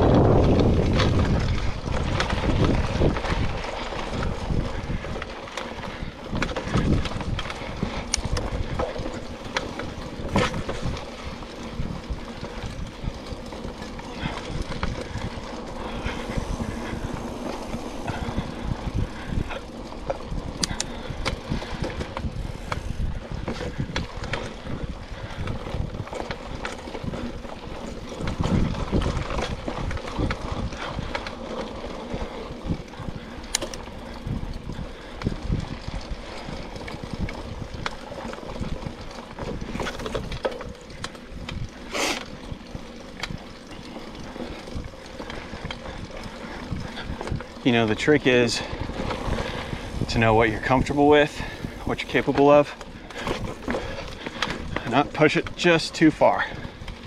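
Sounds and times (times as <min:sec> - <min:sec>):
bike rattling and knocking: 0:00.0 - 0:57.0
bike tyres rumbling over dirt: 0:00.0 - 0:57.0.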